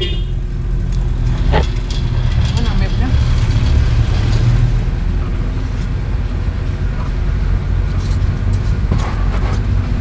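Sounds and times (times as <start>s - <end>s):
low engine and road rumble: 0.0s - 10.0s.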